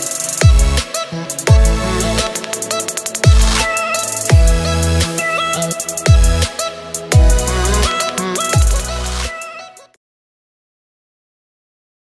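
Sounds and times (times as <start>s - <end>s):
electronic music with steady beat: 0.0s - 9.9s.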